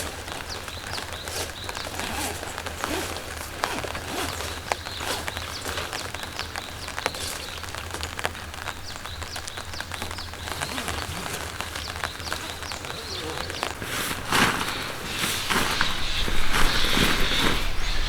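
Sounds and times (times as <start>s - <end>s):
rain falling: 0.0s - 18.0s
raindrops ticking on surfaces: 0.0s - 18.0s
small birds chirping: 0.0s - 18.0s.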